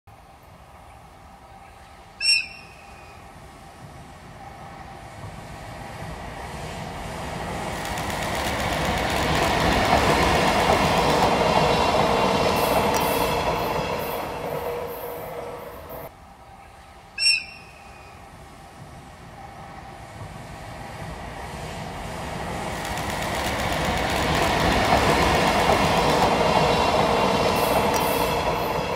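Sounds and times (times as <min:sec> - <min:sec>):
train passing by: 0:00.1 - 0:28.9.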